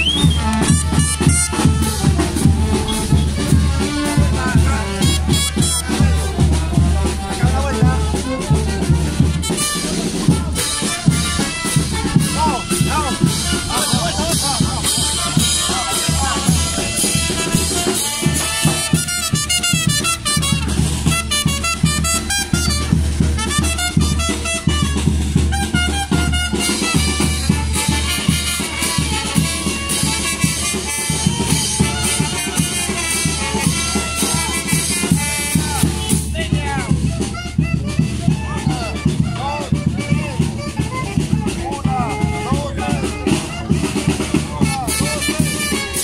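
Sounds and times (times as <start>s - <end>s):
brass band with trumpets: 0.0s - 46.0s
steady drum beat: 0.0s - 46.0s.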